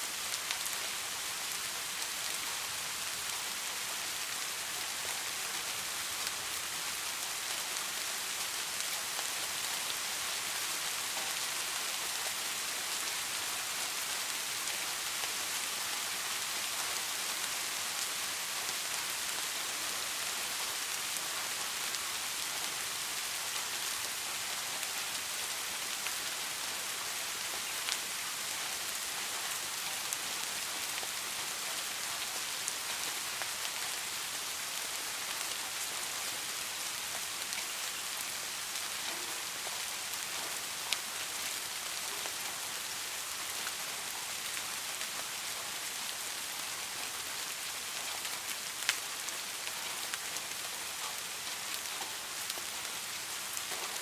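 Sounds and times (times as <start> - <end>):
steady rain hiss: 0.0 - 54.0
raindrops ticking close by: 0.2 - 54.0.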